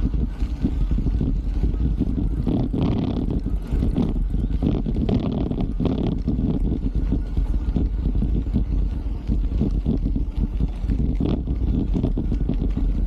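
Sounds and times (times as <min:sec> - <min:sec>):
bike knocking and rattling: 0:00.0 - 0:13.0
wind rumbling on microphone: 0:00.0 - 0:13.0.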